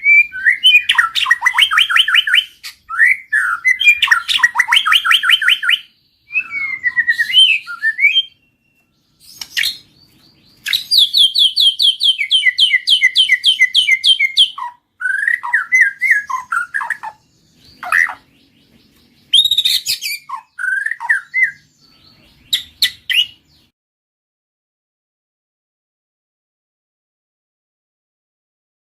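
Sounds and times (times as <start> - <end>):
bird singing trilled notes: 0.0 - 23.7.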